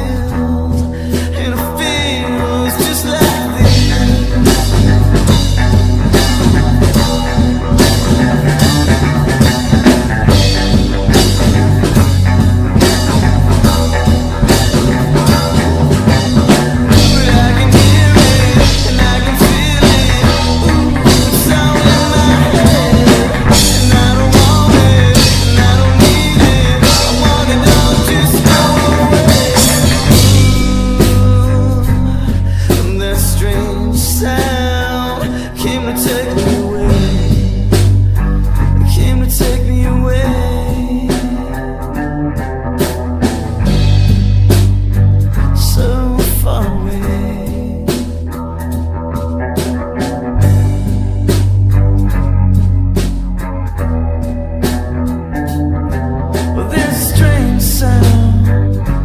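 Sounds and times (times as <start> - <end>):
drum kit beat: 0.0 - 59.0
loud rock music: 0.0 - 59.0.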